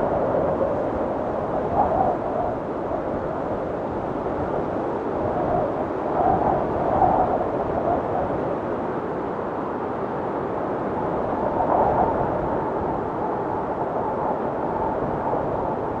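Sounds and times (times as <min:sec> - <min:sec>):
blizzard wind howling: 0:00.0 - 0:16.0.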